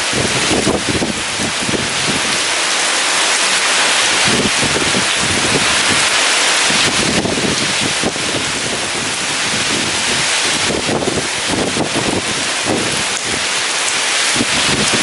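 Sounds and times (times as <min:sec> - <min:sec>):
heavy rain pouring: 0:00.0 - 0:15.0
strong wind gusting: 0:00.0 - 0:15.0.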